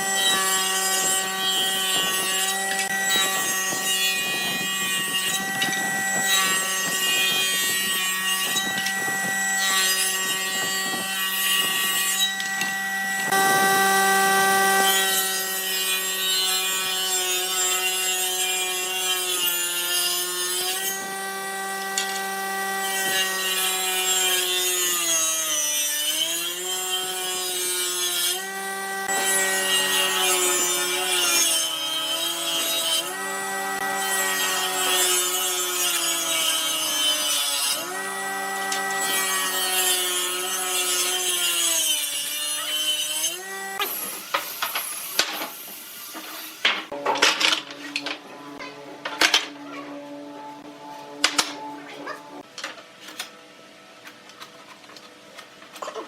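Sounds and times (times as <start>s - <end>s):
power tool motor humming: 0.0s - 46.7s.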